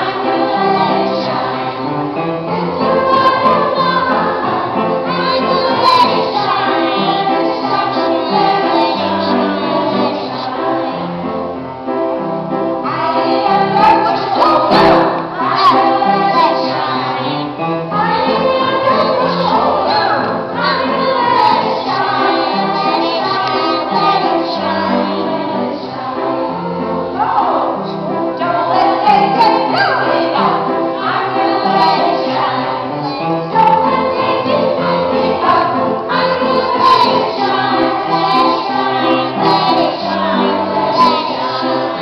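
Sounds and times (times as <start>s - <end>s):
choir singing with held notes: 0.0s - 42.0s.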